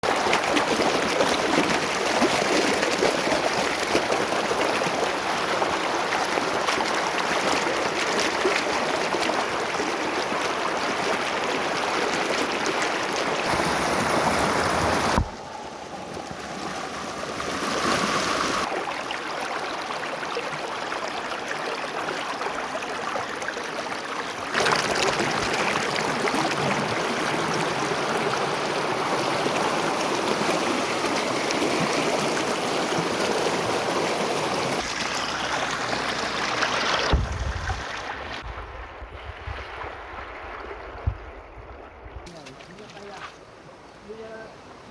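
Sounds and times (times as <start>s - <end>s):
stream water running: 0.0s - 44.9s.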